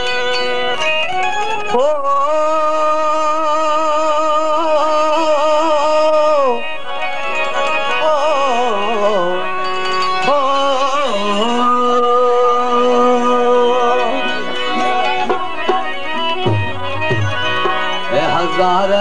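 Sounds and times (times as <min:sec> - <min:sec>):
ornamented folk melody: 0:00.0 - 0:19.0.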